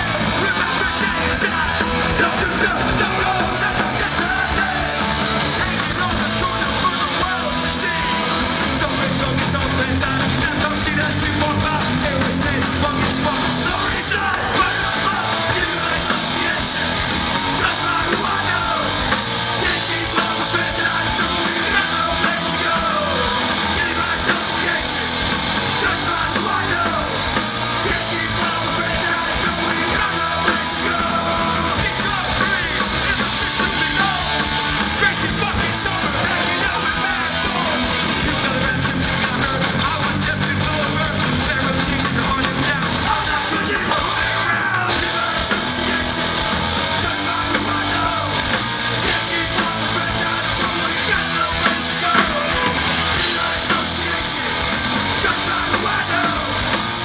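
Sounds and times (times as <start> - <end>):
punk band playing live: 0.0 - 57.0.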